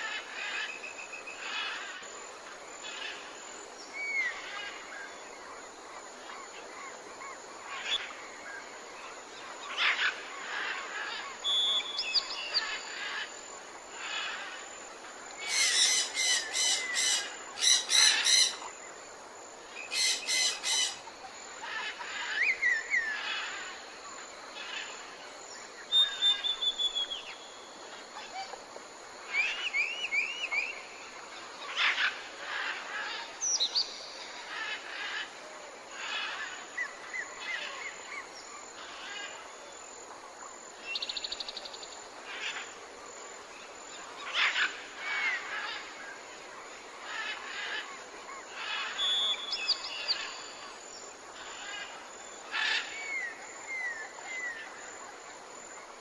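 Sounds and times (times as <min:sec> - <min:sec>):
steady background hiss: 0:00.0 - 0:56.0
wild birds chirping and singing: 0:00.0 - 0:56.0.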